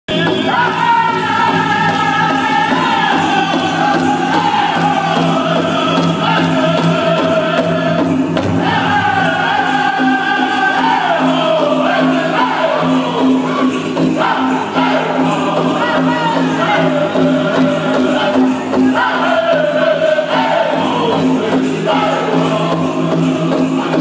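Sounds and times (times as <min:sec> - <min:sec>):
drum group singing in unison: 0:00.1 - 0:24.0.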